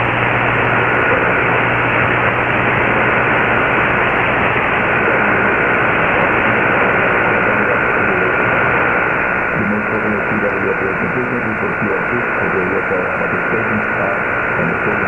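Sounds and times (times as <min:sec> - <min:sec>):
shortwave radio static: 0:00.0 - 0:15.0.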